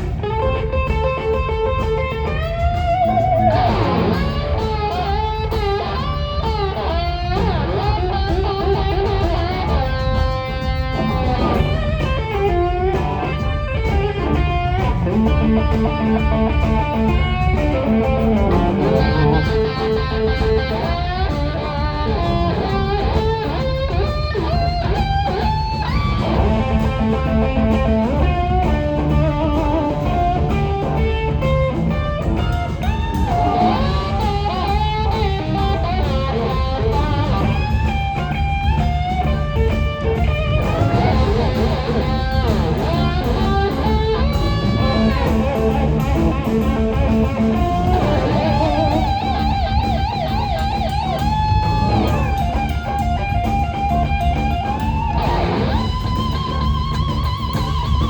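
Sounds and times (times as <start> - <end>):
blues rock band playing: 0.0 - 58.0
lead electric guitar bending notes: 0.0 - 58.0.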